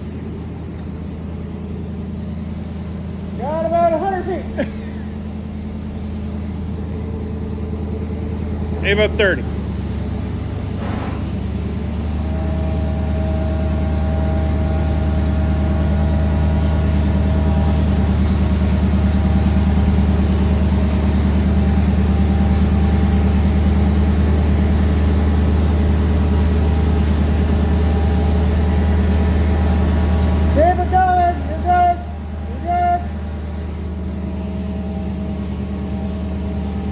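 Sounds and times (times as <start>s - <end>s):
heavy vehicle engine droning: 0.0s - 36.9s.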